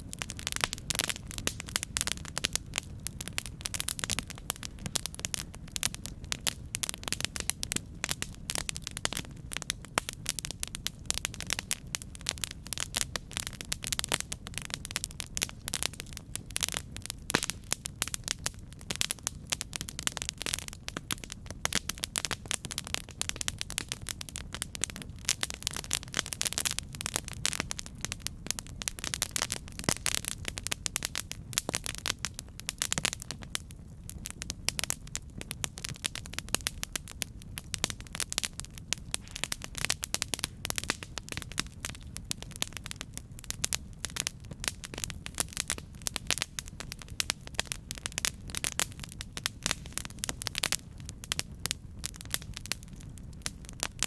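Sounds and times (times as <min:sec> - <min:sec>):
campfire crackling and popping: 0:00.0 - 0:54.0
low rumble of flame: 0:00.0 - 0:54.0.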